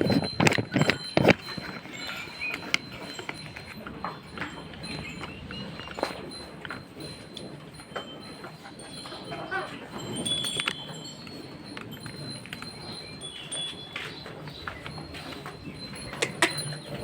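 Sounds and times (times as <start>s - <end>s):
light metallic clinks: 0.0s - 17.0s.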